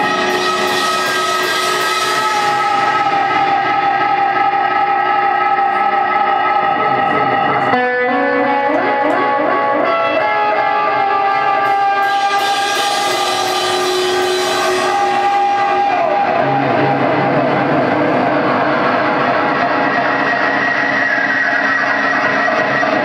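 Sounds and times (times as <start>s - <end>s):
electric guitar chords: 0.0s - 23.0s
rock band playing live: 0.0s - 23.0s.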